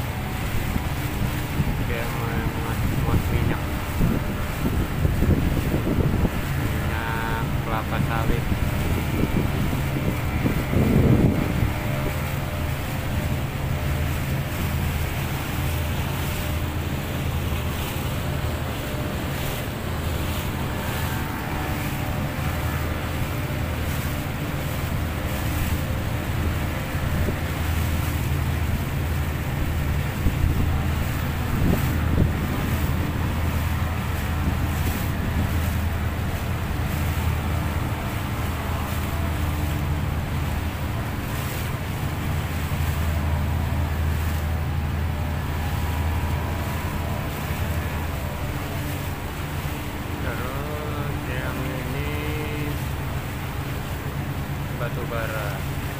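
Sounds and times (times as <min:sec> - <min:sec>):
speedboat engine droning: 0:00.0 - 0:55.9
water rushing past hull: 0:00.0 - 0:55.9
wind on microphone: 0:00.0 - 0:55.9.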